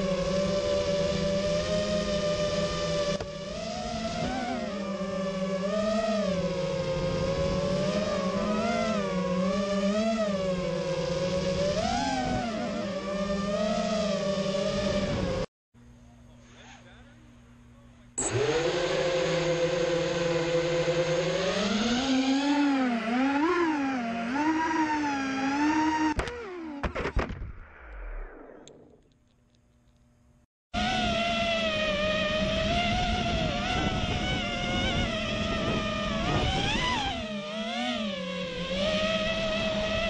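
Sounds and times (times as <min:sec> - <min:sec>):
drone motors whining: 0:00.0 - 0:15.5, 0:17.8 - 0:30.1, 0:30.8 - 0:40.0.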